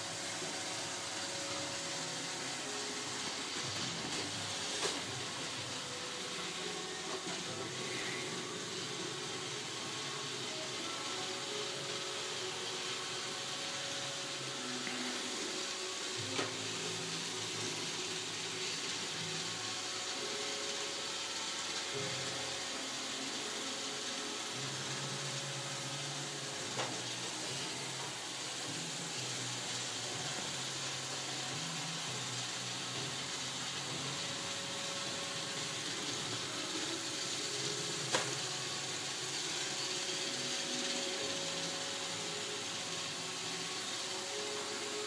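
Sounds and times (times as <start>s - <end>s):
robotic vacuum cleaner whirring: 0.0s - 45.0s.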